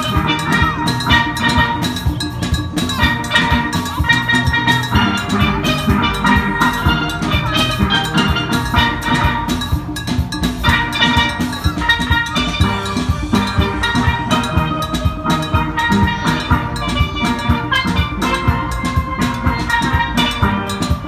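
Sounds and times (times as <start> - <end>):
steady drum beat: 0.0 - 21.0
steelpans ringing a melody: 0.0 - 21.0.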